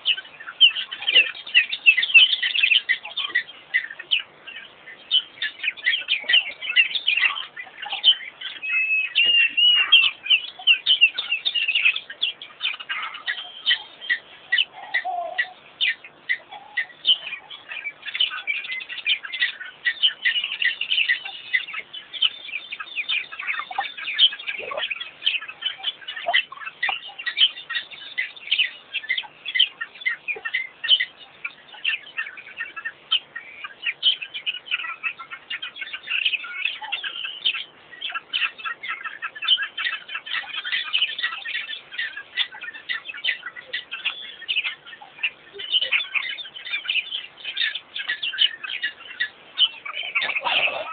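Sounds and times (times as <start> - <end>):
birds chirping and calling: 0.0 - 50.9.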